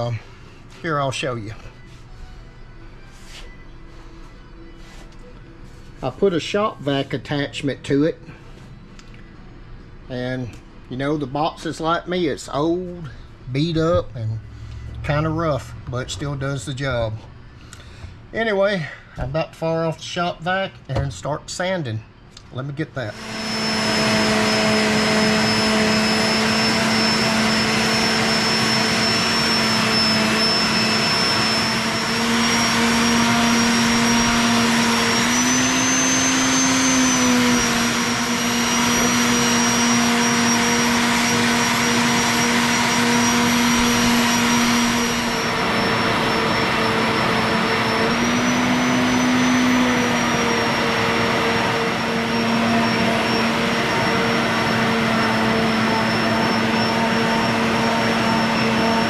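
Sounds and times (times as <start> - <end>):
shop vac motor whine: 0.0 - 19.0, 19.6 - 59.0.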